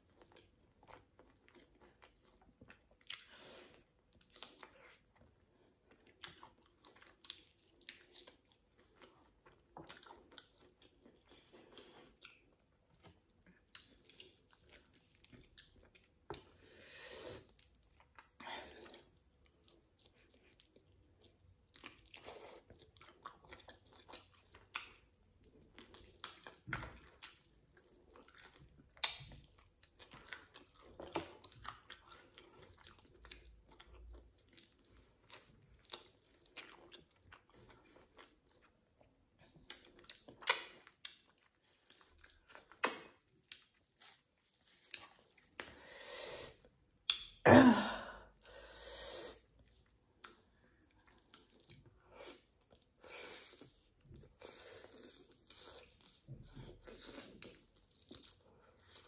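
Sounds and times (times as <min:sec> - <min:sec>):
person chewing and smacking: 0:00.0 - 0:45.8, 0:46.6 - 0:47.4, 0:49.4 - 0:59.0.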